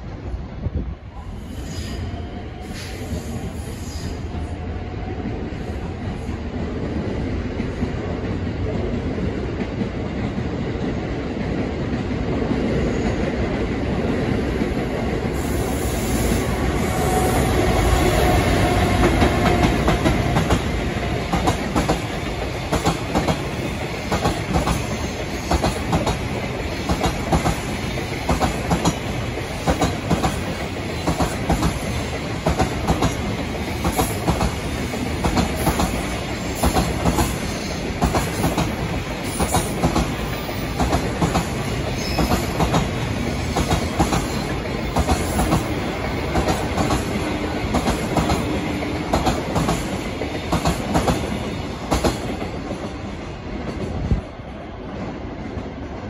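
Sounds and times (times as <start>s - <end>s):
electric locomotive rumble: 0.0s - 56.0s.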